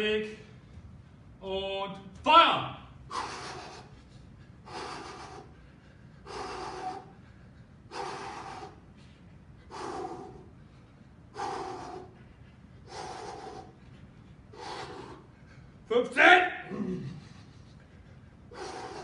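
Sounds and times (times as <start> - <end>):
man breathing hard: 3.0 - 15.9, 16.6 - 19.0.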